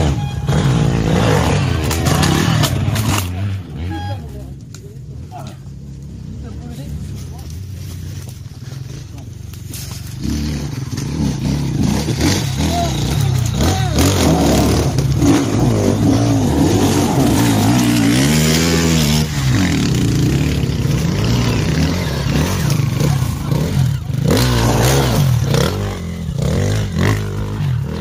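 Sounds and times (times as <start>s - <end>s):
dirt bike engine revving: 0.0s - 4.4s, 8.0s - 28.0s.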